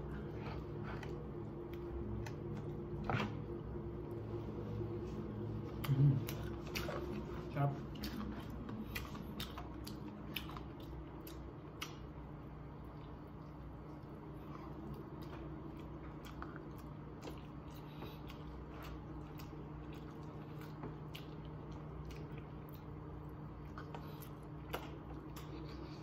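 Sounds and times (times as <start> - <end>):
person chewing: 0.0 - 3.6, 5.0 - 26.0
steady low hum: 0.0 - 26.0.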